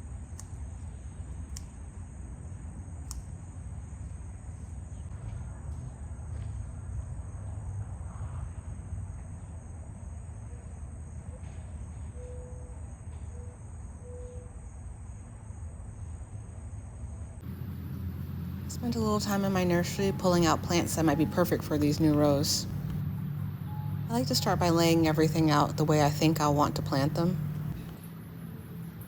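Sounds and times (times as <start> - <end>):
low outdoor rumble: 0.0 - 12.1, 15.7 - 29.0.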